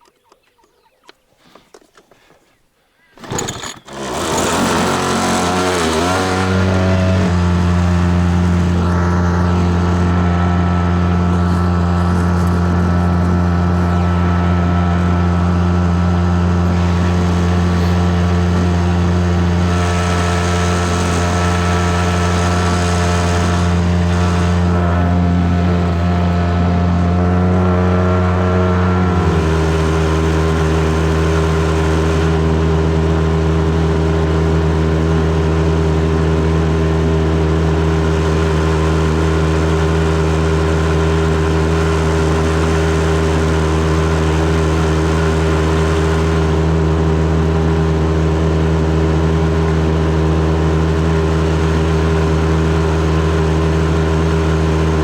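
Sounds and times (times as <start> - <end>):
outboard motor running: 3.2 - 55.0.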